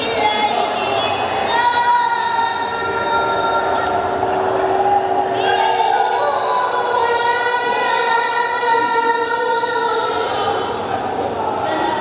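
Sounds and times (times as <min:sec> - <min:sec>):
young person singing: 0:00.0 - 0:04.1, 0:05.3 - 0:10.8, 0:11.4 - 0:12.0.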